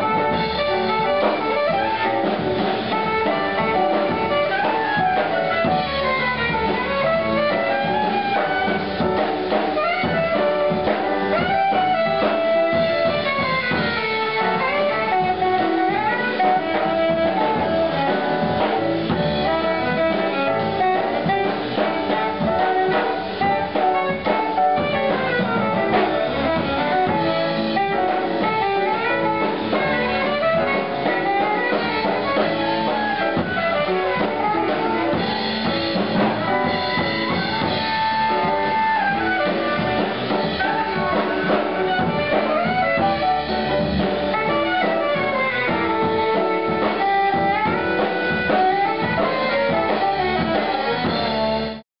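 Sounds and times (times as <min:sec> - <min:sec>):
bass: 0:00.0 - 0:51.8
drum kit: 0:00.0 - 0:51.8
piano: 0:00.0 - 0:51.8
saxophone melody: 0:00.0 - 0:51.8.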